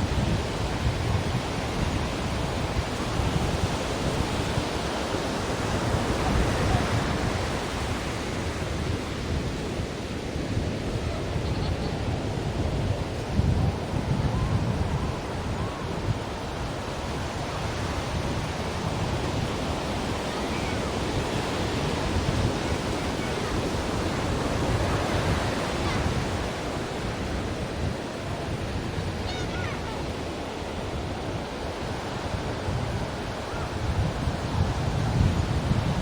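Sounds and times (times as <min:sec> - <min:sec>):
ocean waves surf: 0:00.0 - 0:36.0.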